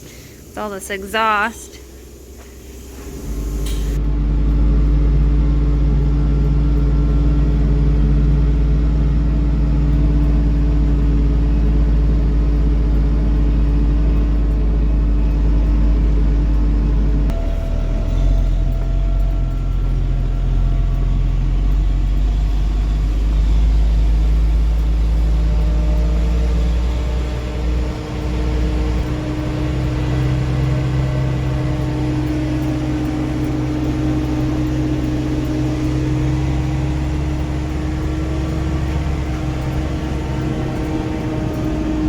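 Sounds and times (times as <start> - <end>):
large engine running: 0.0 - 42.0.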